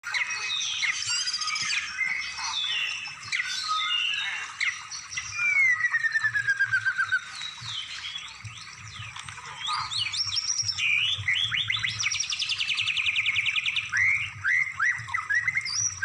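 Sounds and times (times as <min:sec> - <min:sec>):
songbirds singing and calling: 0:00.0 - 0:16.0.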